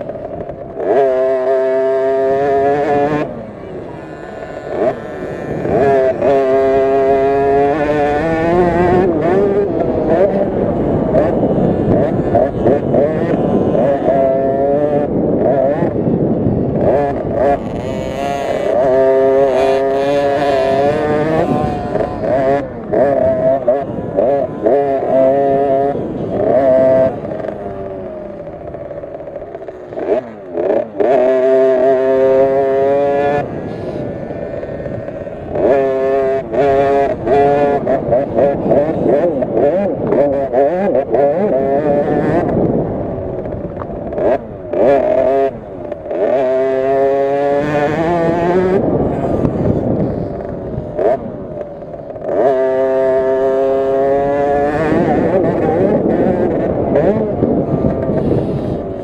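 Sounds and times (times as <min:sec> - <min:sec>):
minibike engine revving: 0:00.0 - 0:59.0.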